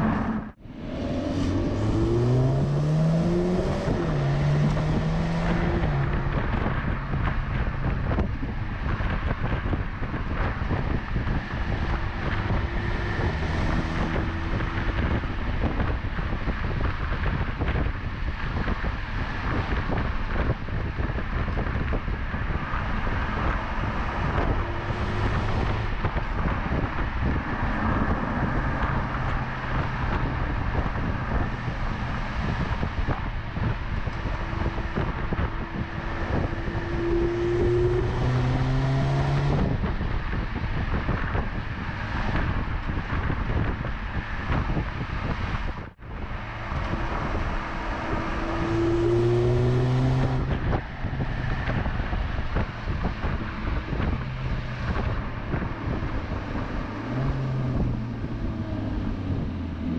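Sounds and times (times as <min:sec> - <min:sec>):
car engine hum: 0:00.0 - 0:59.9
road and wind noise: 0:00.0 - 0:59.9.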